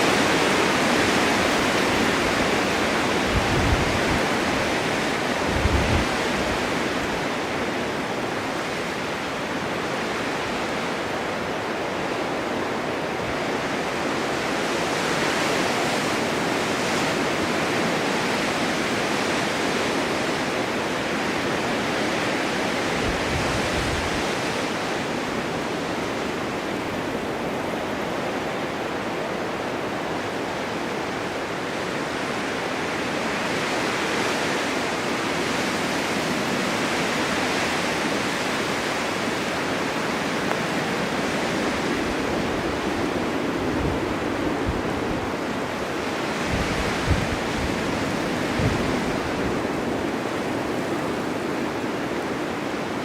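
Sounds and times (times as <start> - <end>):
blizzard wind blowing: 0.0 - 53.0
wind gusts buffeting microphone: 0.0 - 53.0.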